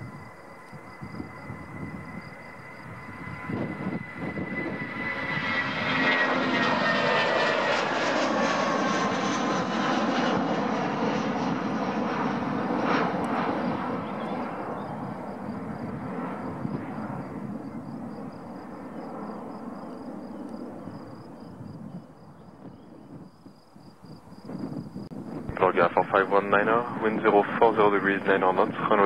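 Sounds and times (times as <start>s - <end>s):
high whine gliding downward: 0.0s - 23.6s, 24.4s - 29.0s
jet engines running: 0.0s - 29.0s.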